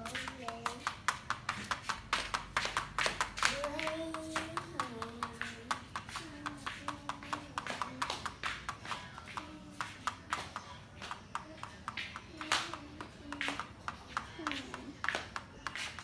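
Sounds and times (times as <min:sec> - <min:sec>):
stylus tapping on drawing board: 0:00.0 - 0:16.0.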